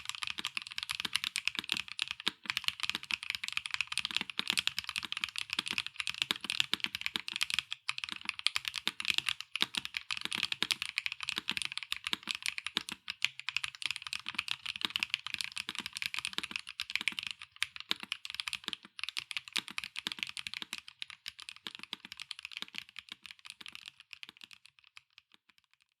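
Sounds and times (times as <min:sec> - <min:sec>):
fast mechanical keyboard typing: 0:00.0 - 0:25.8.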